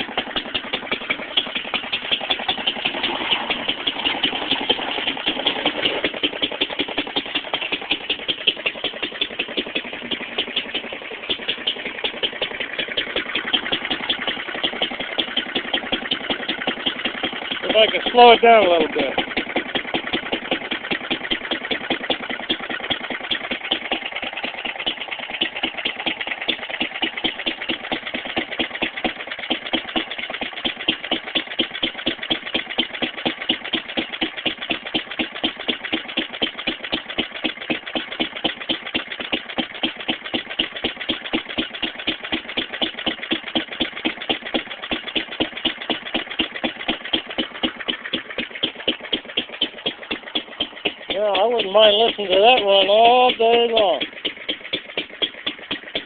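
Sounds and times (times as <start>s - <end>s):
stationary engine exhaust beats: 0.0s - 56.0s.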